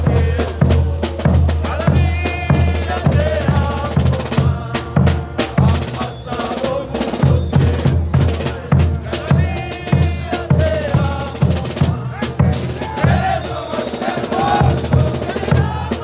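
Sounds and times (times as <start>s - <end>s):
bass drum pounding: 0.0s - 6.0s, 7.2s - 13.4s, 14.4s - 16.0s.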